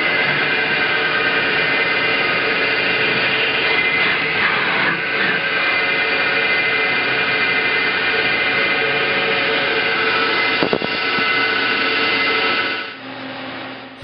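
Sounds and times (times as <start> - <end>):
drilling machine whine: 0.0 - 14.0.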